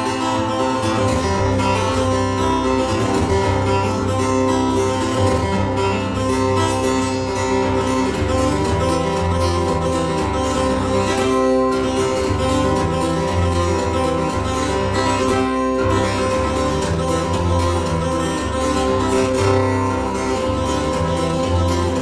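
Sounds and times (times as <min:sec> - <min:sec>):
acoustic guitar: 0:00.0 - 0:22.0
pulsing bass line: 0:00.0 - 0:22.0.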